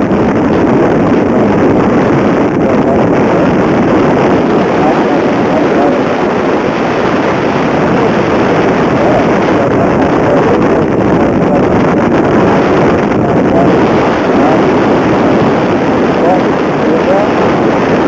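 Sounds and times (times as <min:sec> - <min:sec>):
wind rushing on microphone: 0:00.0 - 0:18.0.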